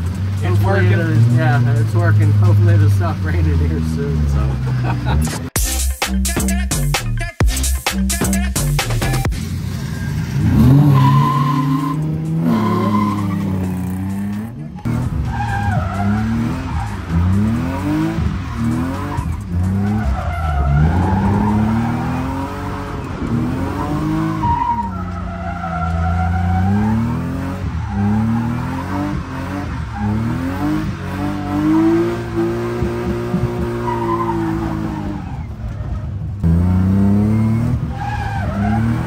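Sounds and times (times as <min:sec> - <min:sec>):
tires skidding and squealing: 0:00.0 - 0:05.4, 0:09.4 - 0:39.0
car engine revving hard: 0:00.0 - 0:05.6, 0:09.3 - 0:35.4, 0:36.4 - 0:39.0.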